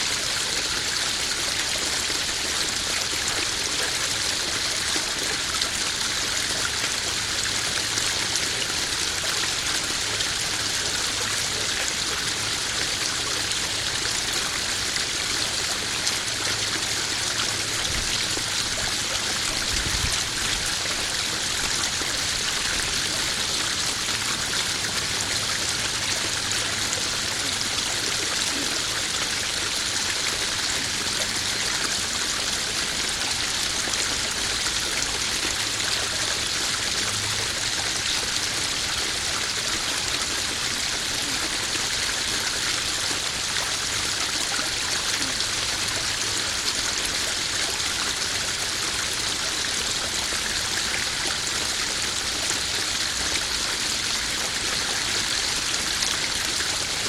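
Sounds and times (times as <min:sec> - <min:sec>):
splashing and trickling water: 0:00.0 - 0:57.0.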